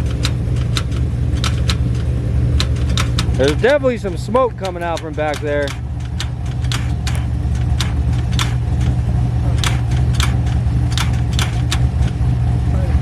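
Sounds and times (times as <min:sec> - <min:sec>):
sharp clicks: 0:00.0 - 0:12.2
car engine humming: 0:00.0 - 0:13.0.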